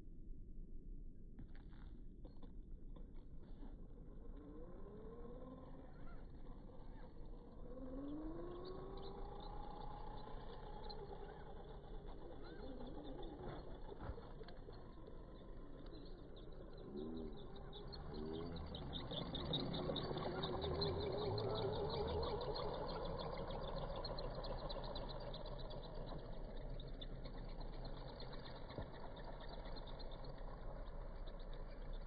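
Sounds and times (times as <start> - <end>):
electric rc car motor whining: 3.6 - 32.0
high-pitched pulsing: 4.6 - 32.0.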